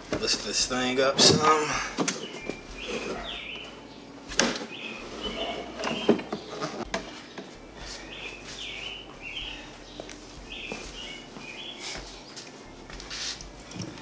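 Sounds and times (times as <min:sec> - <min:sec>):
songbird chirping: 0:00.2 - 0:14.0.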